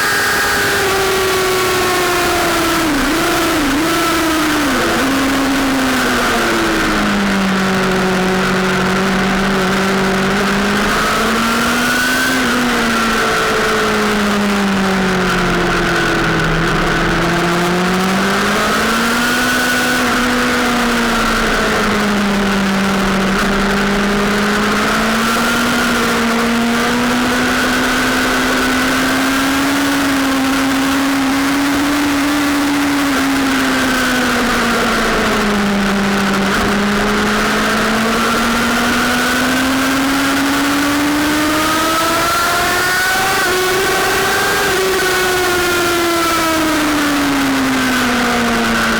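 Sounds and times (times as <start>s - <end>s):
motorcycle engine accelerating: 0.0s - 48.9s
steady rush of noise: 0.0s - 48.9s.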